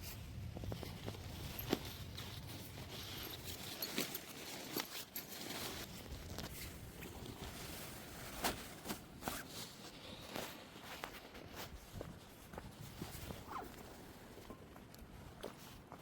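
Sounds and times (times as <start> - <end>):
rustling of camping gear: 0.0 - 16.0.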